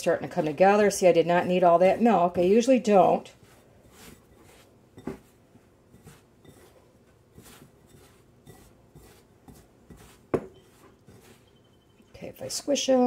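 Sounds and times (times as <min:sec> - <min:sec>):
hands squishing dough in bowl: 0:00.0 - 0:12.8.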